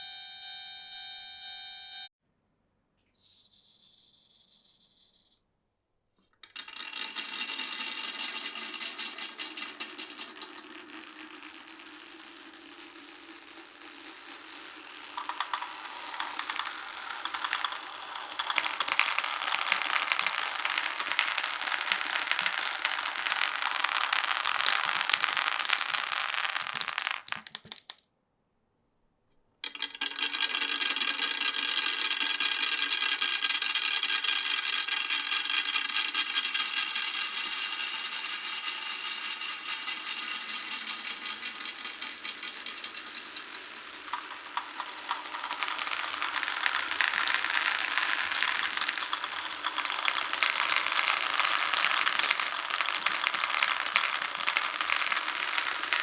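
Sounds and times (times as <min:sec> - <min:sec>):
marbles clattering on wooden track: 0:06.4 - 0:28.0, 0:29.6 - 0:56.0.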